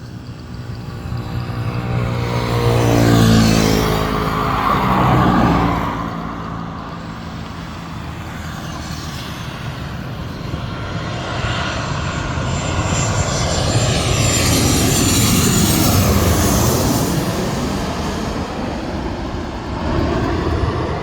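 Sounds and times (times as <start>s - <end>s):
high whine of aircraft: 0.0s - 21.0s
jet airliner engines rumbling overhead: 0.0s - 21.0s.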